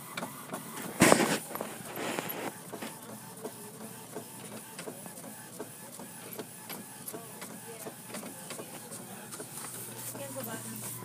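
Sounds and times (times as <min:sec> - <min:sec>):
printer clicking and whirring: 0:00.0 - 0:11.0.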